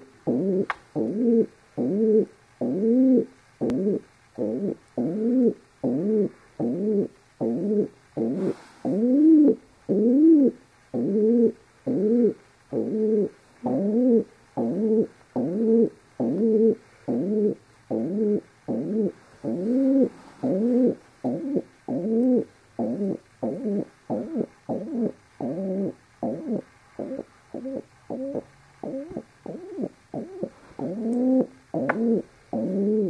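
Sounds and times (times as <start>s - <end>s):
pigeon cooing: 0.0s - 33.0s.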